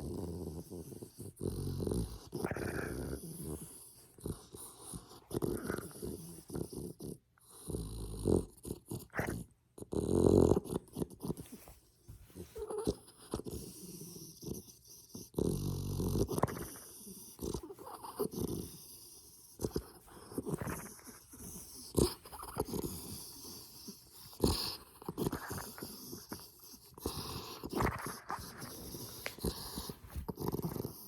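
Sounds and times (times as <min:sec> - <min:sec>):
dog snoring: 0:00.0 - 0:11.6, 0:12.6 - 0:31.0.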